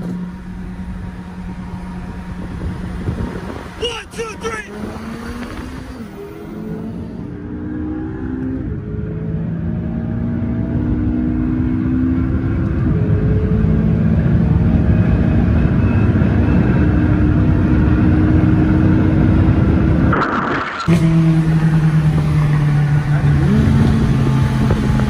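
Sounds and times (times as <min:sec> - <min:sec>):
car engine at full throttle: 0:00.0 - 0:25.0
road and wind noise: 0:00.0 - 0:25.0.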